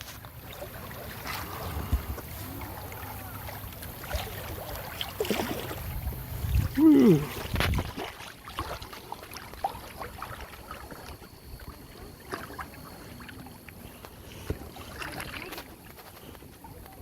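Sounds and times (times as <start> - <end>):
river water lapping and splashing: 0.0 - 17.0
small splashes and knocks: 0.0 - 17.0.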